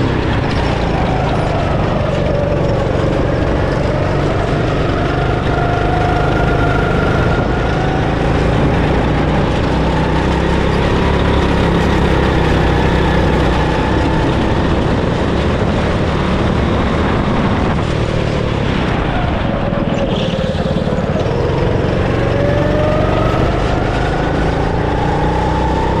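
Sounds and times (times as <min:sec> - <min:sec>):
go-kart engine running: 0:00.0 - 0:26.0
steady rush of noise: 0:00.0 - 0:26.0.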